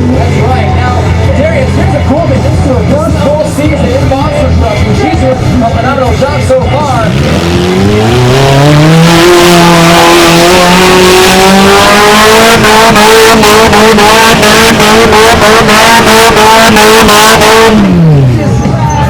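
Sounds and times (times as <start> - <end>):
engine stuttering at rev limiter: 0.0 - 19.0.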